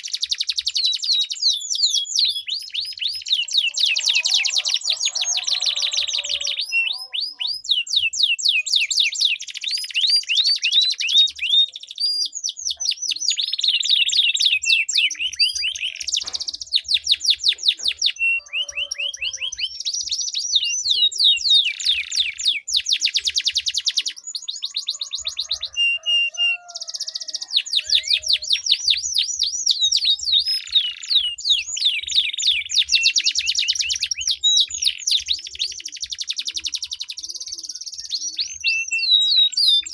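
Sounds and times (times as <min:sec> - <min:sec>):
canaries singing in trills: 0:00.0 - 0:39.9.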